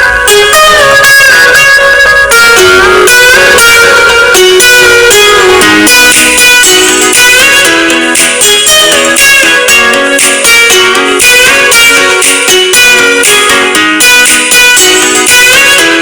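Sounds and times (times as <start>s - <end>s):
lively guitar music: 0.0s - 16.0s.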